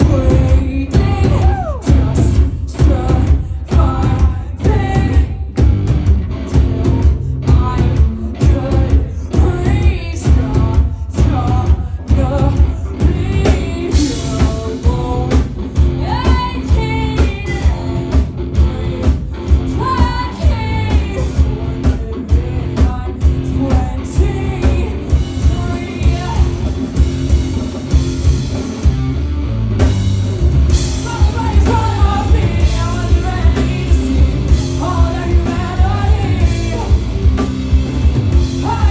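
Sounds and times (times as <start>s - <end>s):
person singing: 0.0s - 5.5s, 6.4s - 26.8s, 30.9s - 37.5s, 38.4s - 38.9s
guitar: 0.0s - 38.9s
steady drum beat: 0.0s - 38.9s.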